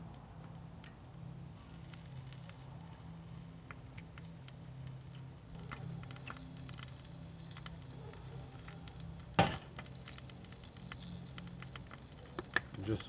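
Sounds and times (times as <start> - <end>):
hot coals crackling: 0.0 - 13.0
low steady hum: 0.0 - 13.0.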